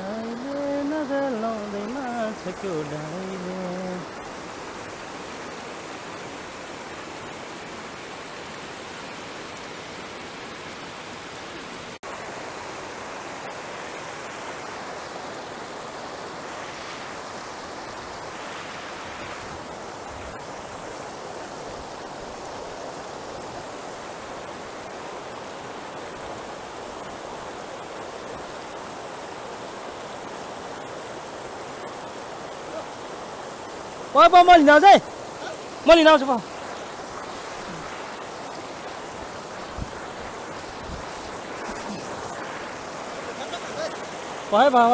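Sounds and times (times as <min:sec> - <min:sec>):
river rushing over boulders: 0:00.0 - 0:44.9.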